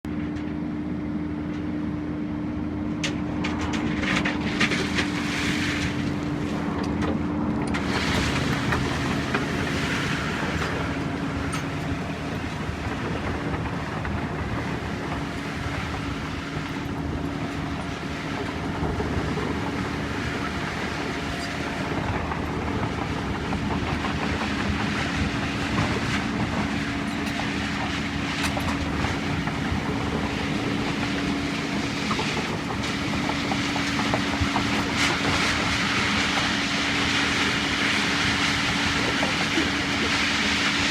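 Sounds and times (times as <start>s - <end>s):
machine clanking and scraping: 3.0s - 40.9s.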